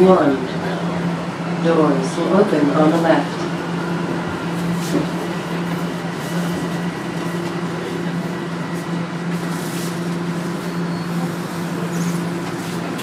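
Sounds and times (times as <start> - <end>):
subway car hum and rumble: 0.0 - 13.0.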